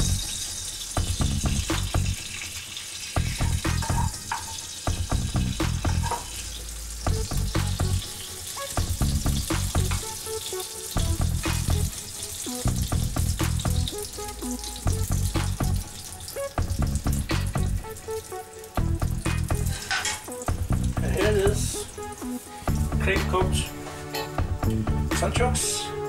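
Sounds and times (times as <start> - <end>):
background music with bass: 0.0 - 0.4, 1.0 - 2.2, 3.2 - 4.2, 4.9 - 6.2, 7.1 - 8.2, 8.8 - 10.4, 11.0 - 18.1, 18.7 - 26.0
bacon sizzling in frying pan: 0.0 - 24.7.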